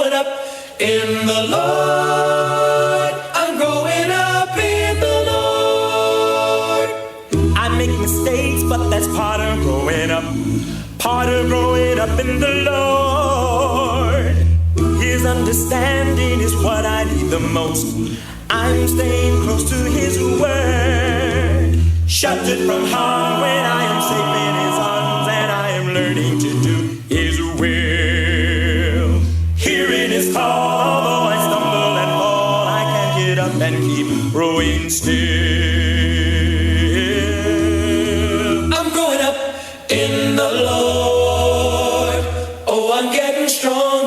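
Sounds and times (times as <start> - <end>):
voices singing in harmony: 0.0 - 44.0.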